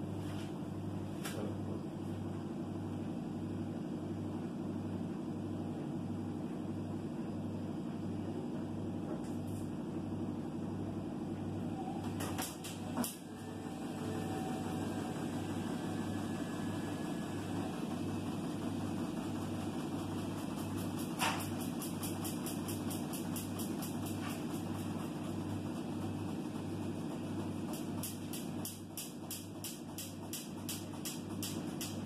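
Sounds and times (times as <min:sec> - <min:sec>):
washer-dryer humming and throbbing: 0:00.0 - 0:32.0.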